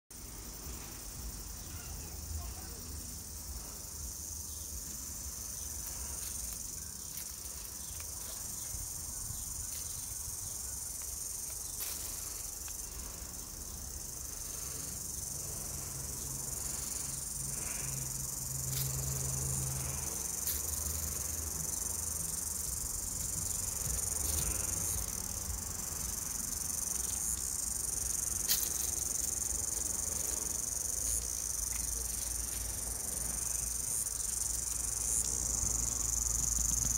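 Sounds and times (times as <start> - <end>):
cicadas singing: 0.1 - 36.9.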